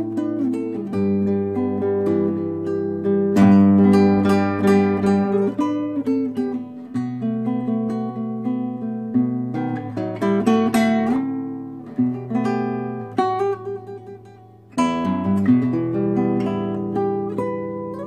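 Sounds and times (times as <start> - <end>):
fingerstyle classical guitar: 0.0 - 18.0.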